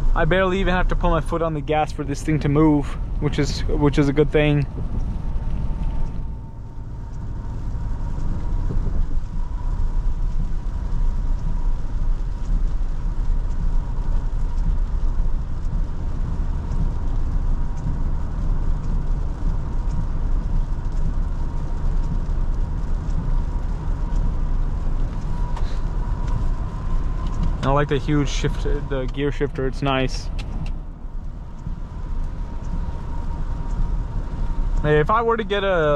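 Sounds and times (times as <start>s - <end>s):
road rumble inside vehicle: 0.0s - 35.9s
wet tyre hiss: 0.4s - 35.9s.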